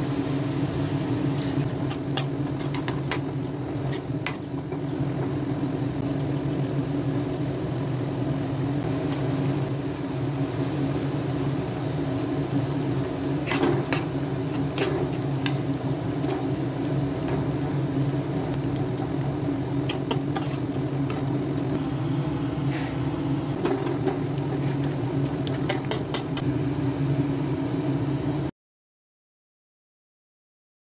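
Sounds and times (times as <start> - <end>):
low mechanical hum: 0.0 - 28.5.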